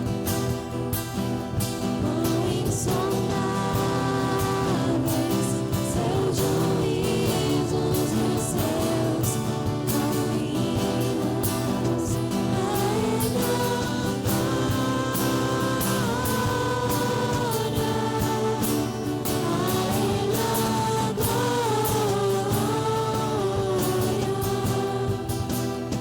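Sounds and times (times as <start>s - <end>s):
voices singing together: 0.0s - 26.0s
worship band playing: 0.0s - 26.0s
drum beat: 5.0s - 26.0s.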